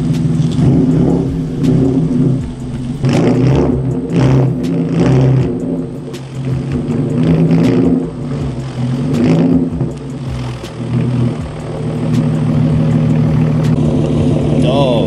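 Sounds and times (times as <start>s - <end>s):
sharp exhaust pops: 0.0s - 14.8s
car engine revving: 0.0s - 15.0s.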